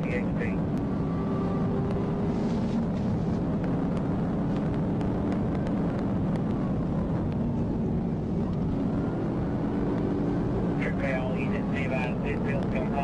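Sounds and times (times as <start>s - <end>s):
car engine: 0.0s - 13.0s
road and wind noise: 0.0s - 13.0s.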